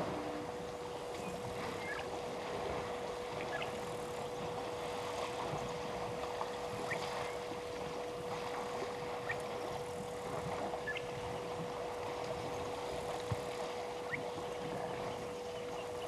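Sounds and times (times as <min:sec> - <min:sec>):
water sloshing and splashing: 0:00.0 - 0:15.4
steady hum: 0:00.0 - 0:16.0.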